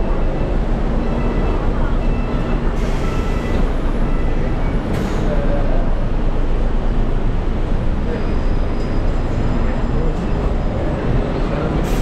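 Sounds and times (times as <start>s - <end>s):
buses running: 0.0s - 12.0s
road traffic rumble: 0.0s - 12.0s.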